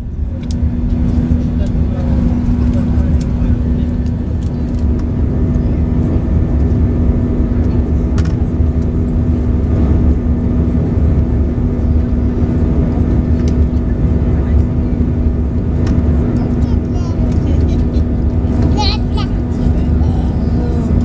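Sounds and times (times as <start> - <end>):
constant hum: 0.0 - 21.0
jet engine and airflow noise: 0.0 - 21.0.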